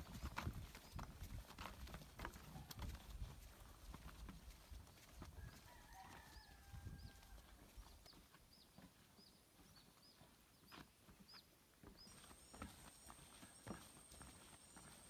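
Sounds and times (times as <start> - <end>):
footsteps on wooden boardwalk: 0.0 - 15.0.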